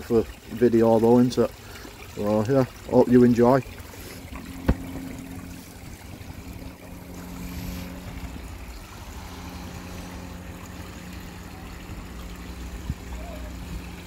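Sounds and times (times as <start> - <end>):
water trickling into pond: 0.0 - 14.0
steady low hum: 2.6 - 14.0.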